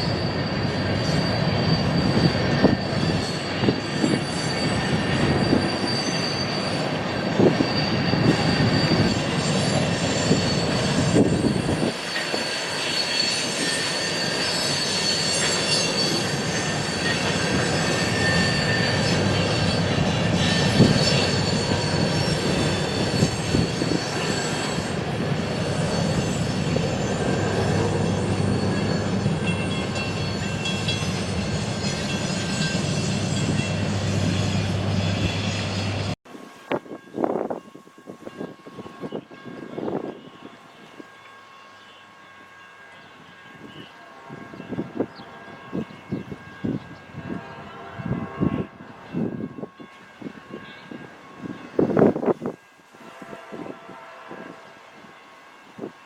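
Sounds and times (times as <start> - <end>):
train rumbling past: 0.0 - 56.0
train wheels squealing on rails: 0.0 - 56.0.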